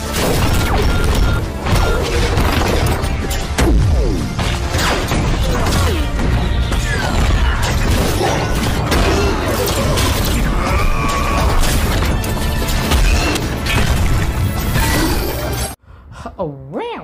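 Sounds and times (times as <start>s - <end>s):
action soundtrack music: 0.0s - 15.8s.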